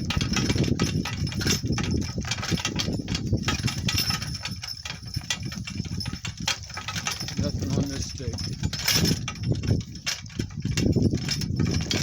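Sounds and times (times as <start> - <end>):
cart rolling over rough ground: 0.0 - 12.0
knocks and rattles: 0.0 - 12.0.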